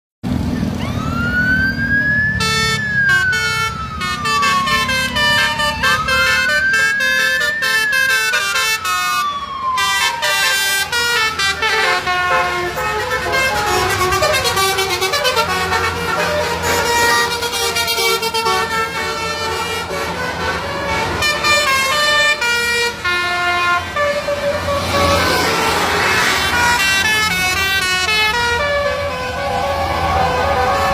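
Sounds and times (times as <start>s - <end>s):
bus engine rumble: 0.2s - 30.9s
siren-like wail: 0.5s - 18.8s, 21.4s - 30.9s
musical air horns playing tune: 2.4s - 30.9s.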